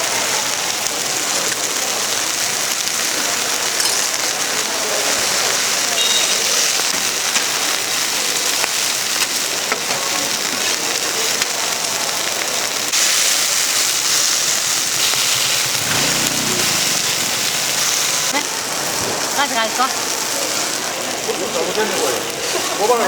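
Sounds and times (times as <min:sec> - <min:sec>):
pancakes sizzling in oil: 0:00.0 - 0:23.0.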